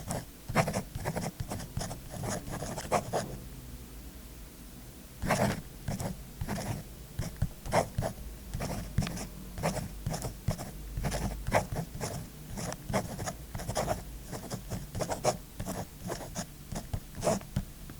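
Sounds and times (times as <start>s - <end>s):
scribbling on paper: 0.0s - 3.2s, 5.2s - 17.5s.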